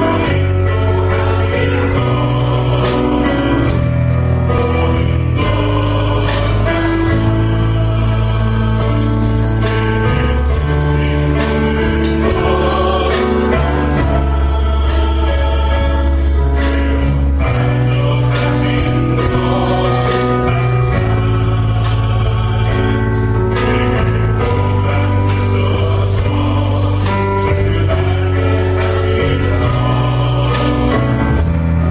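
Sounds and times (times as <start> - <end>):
choir singing gospel song: 0.0 - 31.9
drum beat: 0.0 - 31.9
steady bass: 0.0 - 31.9.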